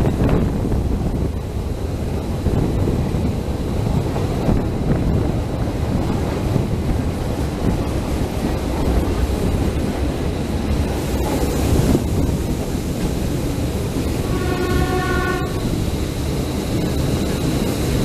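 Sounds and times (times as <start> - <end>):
passenger train running: 0.0 - 18.0
wind buffeting microphone: 0.0 - 18.0.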